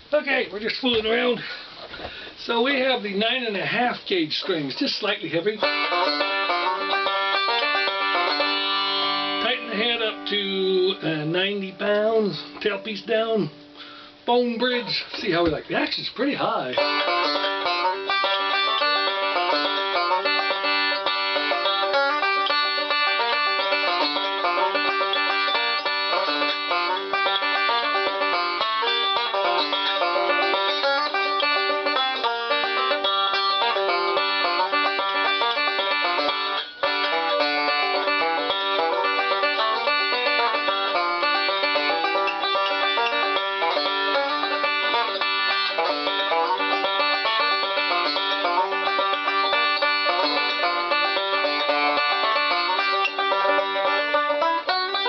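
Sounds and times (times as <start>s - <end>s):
banjo picked notes: 2.4s - 55.0s.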